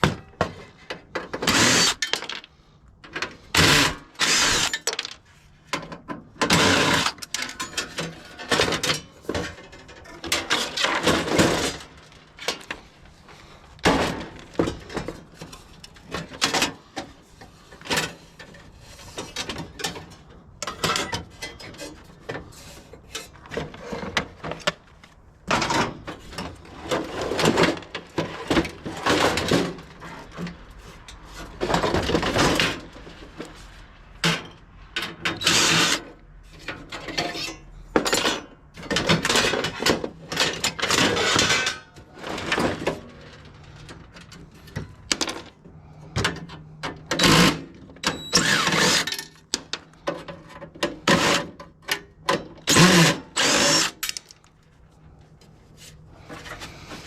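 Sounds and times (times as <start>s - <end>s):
metal parts knocking and scraping: 0.0s - 33.6s, 34.2s - 54.6s.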